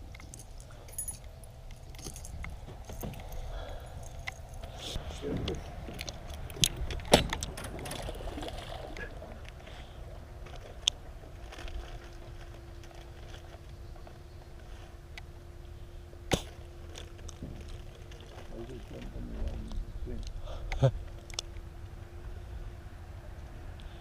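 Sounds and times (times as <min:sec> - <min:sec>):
faint steady hum: 0:00.0 - 0:24.0
low steady rumble: 0:00.0 - 0:24.0.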